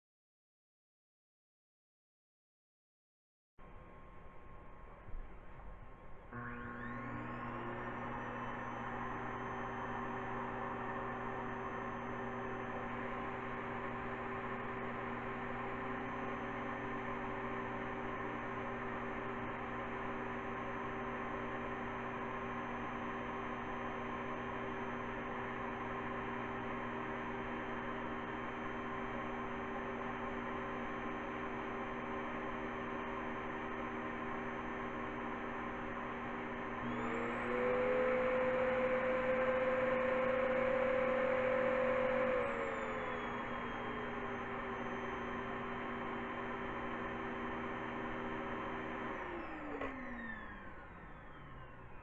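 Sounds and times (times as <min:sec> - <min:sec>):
vacuum cleaner humming: 0:06.3 - 0:52.0.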